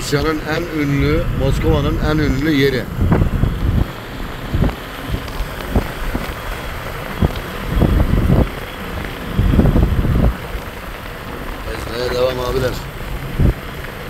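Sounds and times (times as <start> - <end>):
low rumble of city traffic: 0.0 - 14.0
wind buffeting microphone: 0.0 - 14.0.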